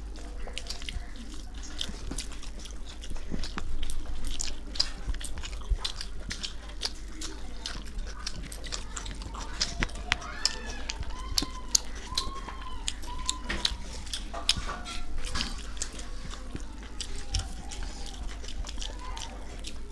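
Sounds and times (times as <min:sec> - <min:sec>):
people chewing food: 0:00.0 - 0:19.9
wet mouth clicks and lip smacks: 0:00.2 - 0:19.9.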